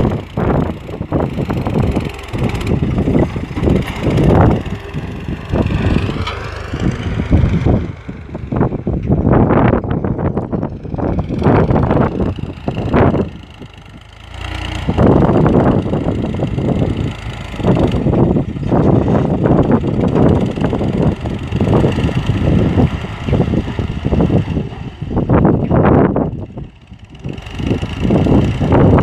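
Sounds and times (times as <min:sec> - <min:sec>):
tractor engine rumbling: 0:00.0 - 0:29.0.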